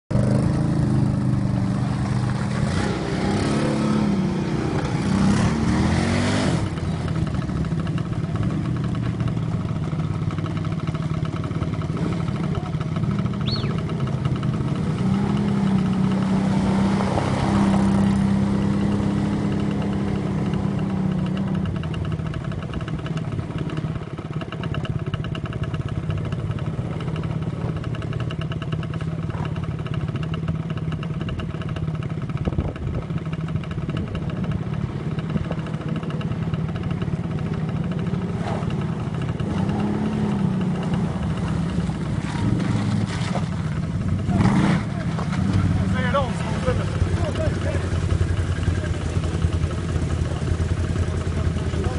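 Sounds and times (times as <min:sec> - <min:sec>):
quad bike engine revving: 0:00.1 - 0:51.9.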